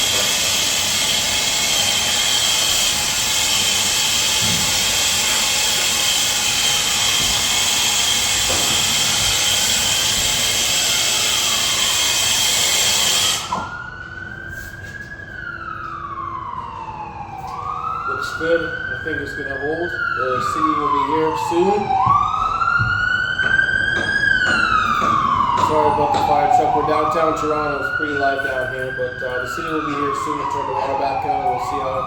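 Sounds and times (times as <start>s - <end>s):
fire truck siren wailing: 0.0s - 32.0s.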